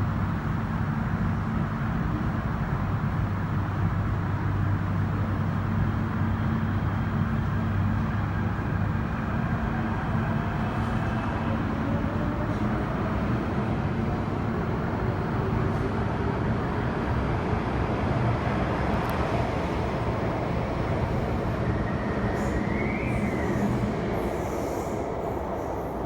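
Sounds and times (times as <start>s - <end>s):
metro train rumbling: 0.0s - 26.0s
train whine: 0.0s - 26.0s.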